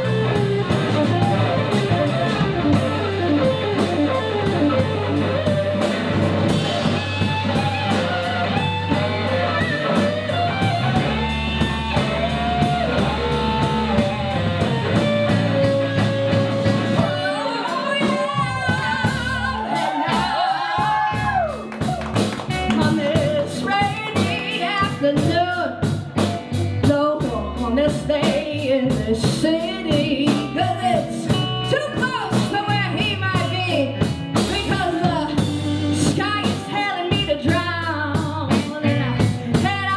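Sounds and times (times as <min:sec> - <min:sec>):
lead vocals: 0:00.0 - 0:26.2, 0:26.8 - 0:39.9
bass guitar: 0:00.0 - 0:39.9
drum kit: 0:00.0 - 0:39.9
electric guitars: 0:00.0 - 0:39.9.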